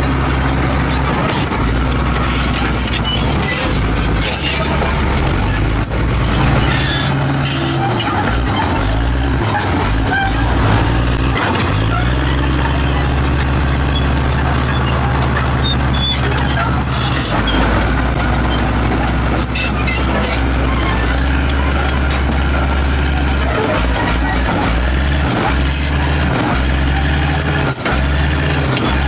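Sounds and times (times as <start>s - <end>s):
bulldozer engine under load: 0.0s - 29.0s
clanks and scraping: 0.0s - 29.0s.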